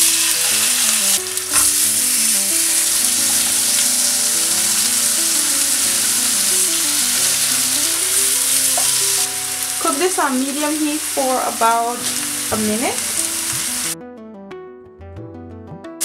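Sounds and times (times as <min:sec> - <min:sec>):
fish frying in hot oil: 0:00.0 - 0:14.0.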